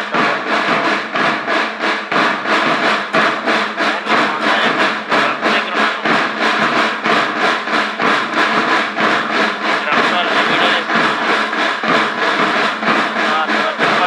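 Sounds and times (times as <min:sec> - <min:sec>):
drums playing a fast beat: 0:00.0 - 0:14.0.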